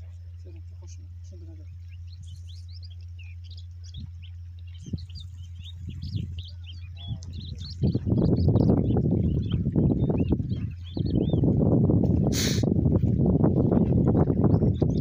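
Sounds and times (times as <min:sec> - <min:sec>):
rough low rumbling noise: 0:00.0 - 0:15.0
small birds chirping: 0:00.0 - 0:15.0.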